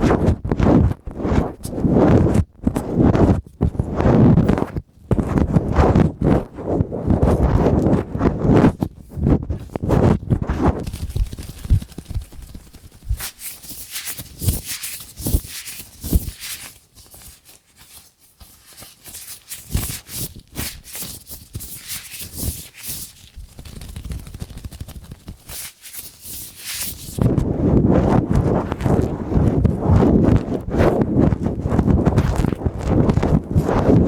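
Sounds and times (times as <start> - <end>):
latex gloves crinkly rubbing: 0.0 - 34.0.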